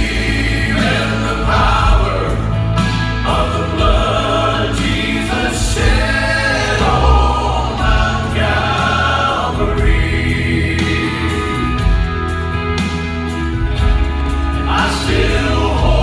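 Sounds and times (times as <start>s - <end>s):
low instrumental accompaniment: 0.0s - 16.0s
vocal quartet singing a hymn: 0.0s - 16.0s.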